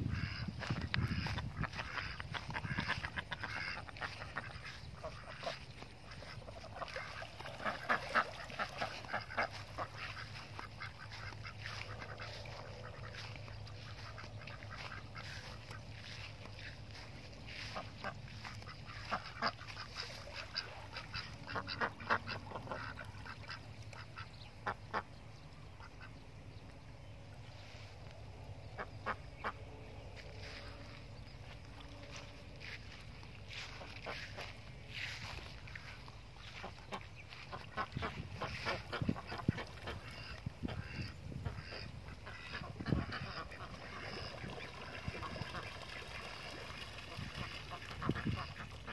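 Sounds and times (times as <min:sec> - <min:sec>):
duck quacking: 0:00.0 - 0:25.2, 0:28.7 - 0:48.9.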